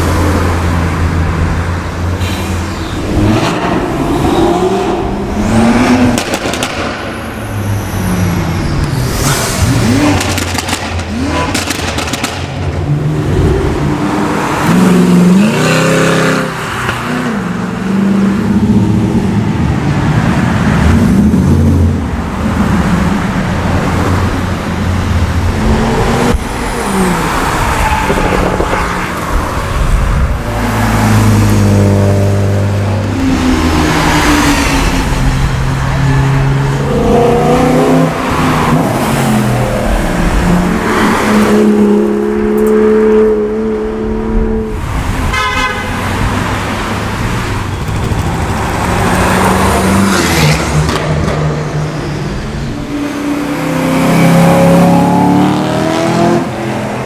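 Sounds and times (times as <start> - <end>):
race cars passing at speed: 0.0 - 57.0.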